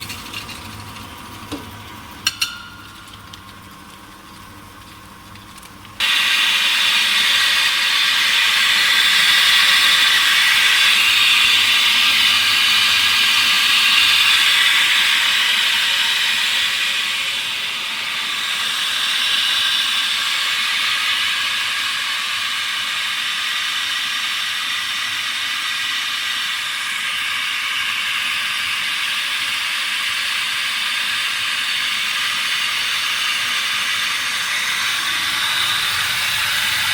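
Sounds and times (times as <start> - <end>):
grinding machine hissing noise: 6.0 - 36.9.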